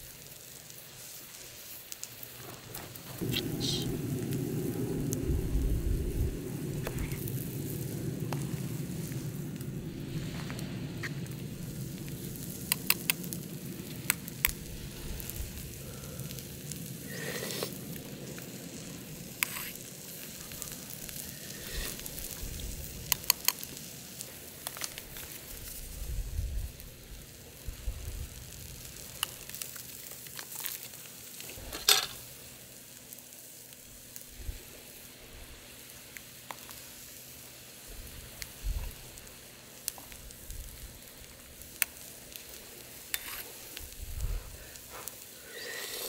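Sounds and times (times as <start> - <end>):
burning wood crackling: 0.0 - 46.0
food sizzling and simmering: 0.0 - 46.0.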